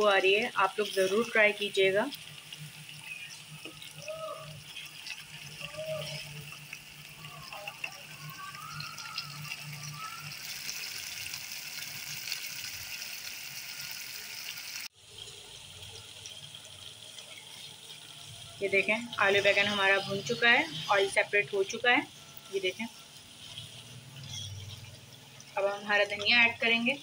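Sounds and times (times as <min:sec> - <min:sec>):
curry sizzling in a pot: 0:00.0 - 0:27.0.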